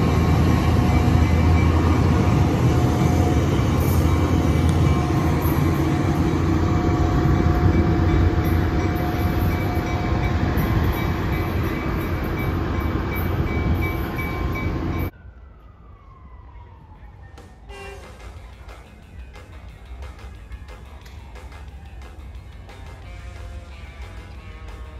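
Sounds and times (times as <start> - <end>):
diesel locomotive engine rumble: 0.0 - 24.9.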